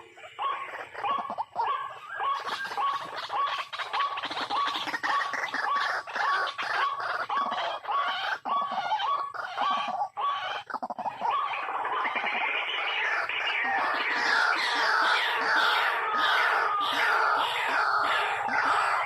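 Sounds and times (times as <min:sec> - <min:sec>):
waterhen croaking call: 0:00.0 - 0:19.0.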